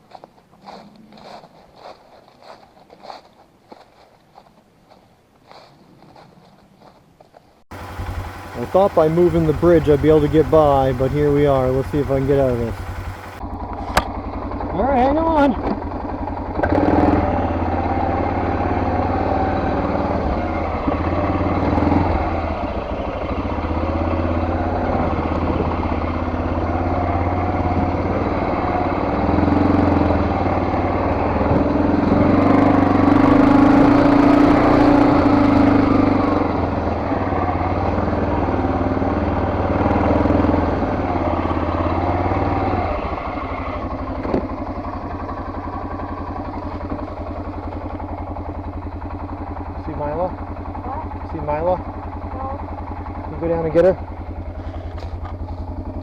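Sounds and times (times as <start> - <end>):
vehicle engine running under load: 7.7 - 56.0.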